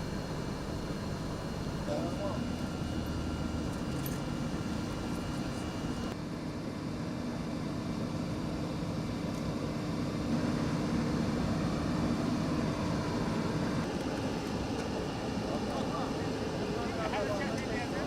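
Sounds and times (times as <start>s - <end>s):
aircraft engines humming: 0.0s - 6.2s, 7.1s - 18.0s.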